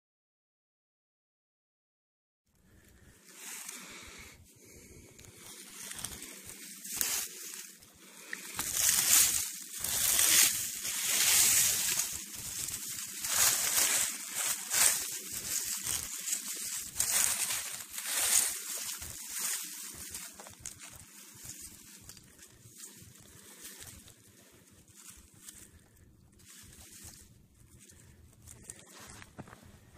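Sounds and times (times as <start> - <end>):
dry leaves rustling: 2.7 - 29.5.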